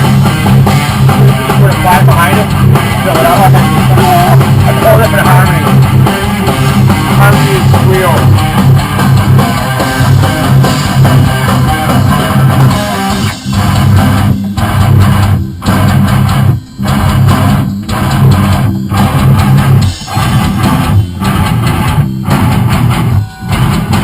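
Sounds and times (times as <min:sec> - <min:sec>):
bass guitar: 0:00.0 - 0:24.0
distorted electric guitar riff: 0:00.0 - 0:24.0.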